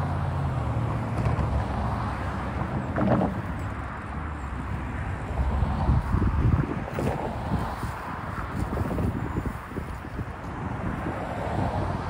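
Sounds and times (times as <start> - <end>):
cars driving over tracks: 0.0 - 12.0.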